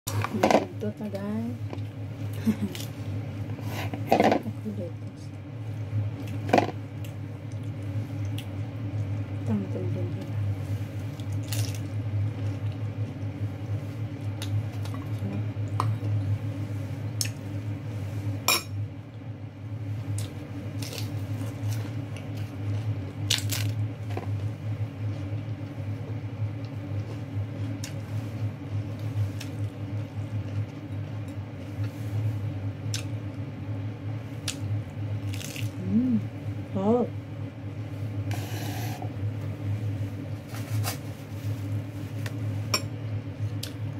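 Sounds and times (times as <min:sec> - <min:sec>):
steady low hum: 0:00.1 - 0:43.9.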